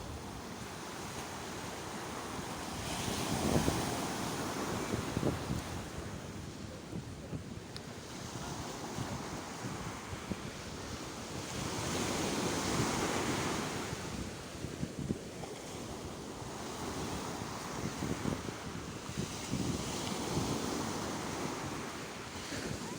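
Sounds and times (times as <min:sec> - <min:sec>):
sea waves washing onto shore: 0:00.0 - 0:22.9.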